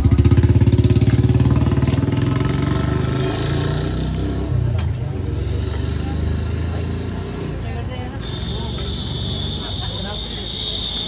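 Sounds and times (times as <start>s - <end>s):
low street hum: 0.0s - 11.0s.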